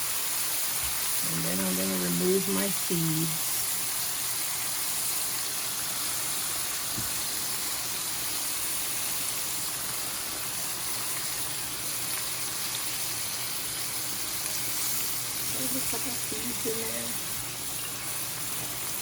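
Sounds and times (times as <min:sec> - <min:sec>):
sizzling in a hot pan: 0:00.0 - 0:19.0.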